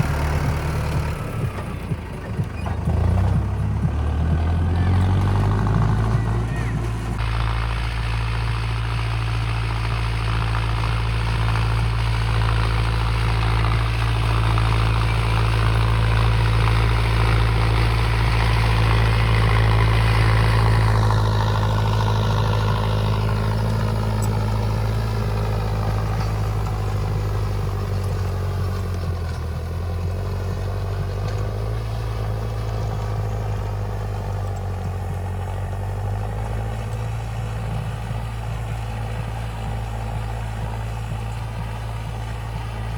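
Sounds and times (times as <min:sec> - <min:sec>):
tractor diesel engine humming: 0:00.0 - 0:42.9.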